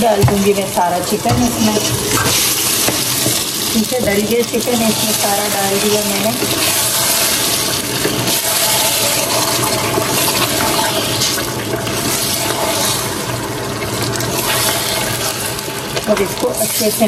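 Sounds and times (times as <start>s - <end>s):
chicken sizzling in hot oil: 0.0s - 17.0s
wooden spoon stirring: 0.0s - 17.0s.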